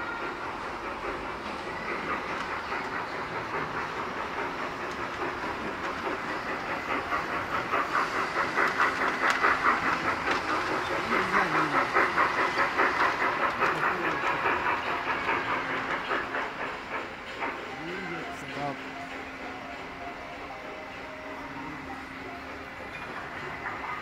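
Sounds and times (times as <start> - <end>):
model train clattering on track: 0.0 - 24.0.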